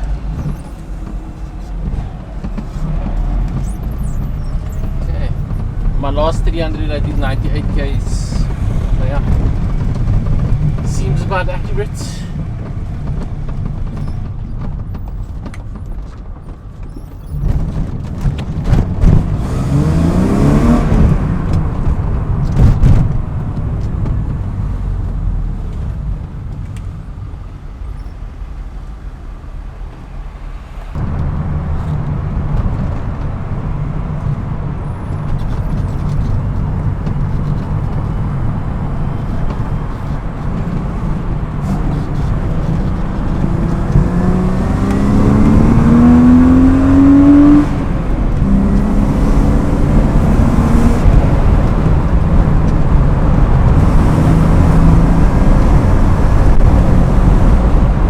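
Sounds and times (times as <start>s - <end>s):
car engine accelerating from inside: 0.0s - 28.2s, 30.7s - 58.0s.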